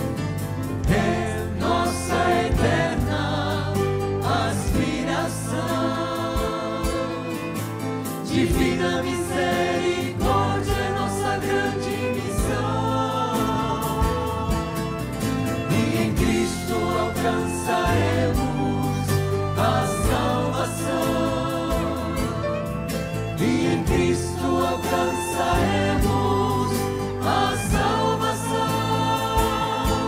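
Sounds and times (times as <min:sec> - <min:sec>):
low bass line: 0:00.0 - 0:30.0
mixed choir singing a hymn: 0:00.0 - 0:30.0.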